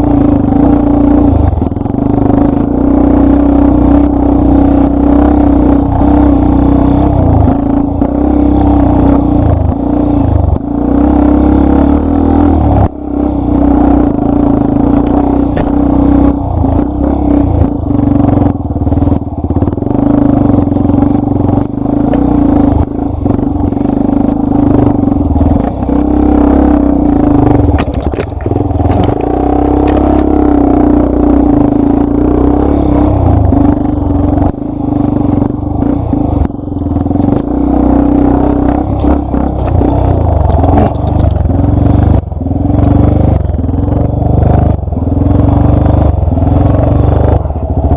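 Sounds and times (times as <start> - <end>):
motorcycle engine under load: 0.0 - 47.9.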